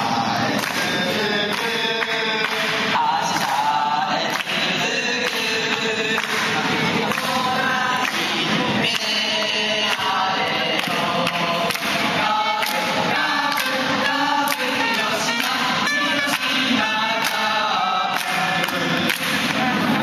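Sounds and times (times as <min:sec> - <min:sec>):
young men singing together: 0:00.0 - 0:20.0
hand claps: 0:00.5 - 0:20.0.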